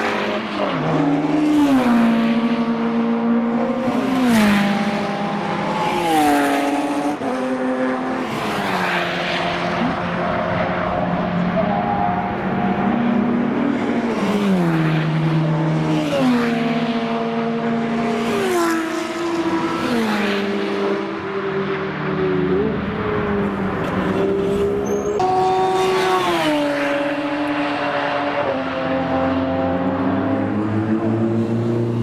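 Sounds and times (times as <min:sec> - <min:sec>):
race car engines downshifting: 0:00.0 - 0:32.0.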